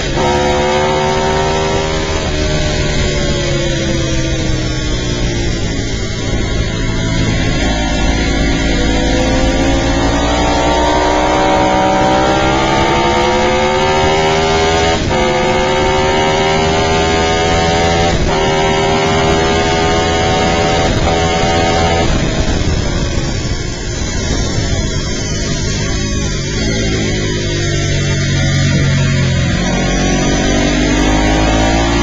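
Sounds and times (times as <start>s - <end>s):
motorcycle engine accelerating: 0.0s - 32.0s
wind rush: 0.0s - 32.0s.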